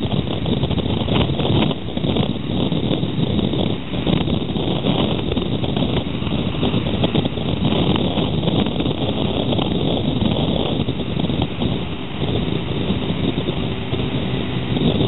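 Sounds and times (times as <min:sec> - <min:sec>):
propeller aircraft engine drone: 0:00.0 - 0:15.0
wind rumble on microphone: 0:00.0 - 0:15.0.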